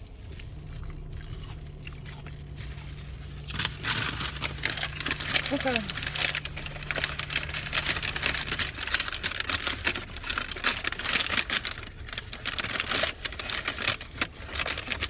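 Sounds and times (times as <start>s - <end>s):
food packaging crinkling: 0.0s - 15.0s
low steady hum: 0.0s - 15.0s.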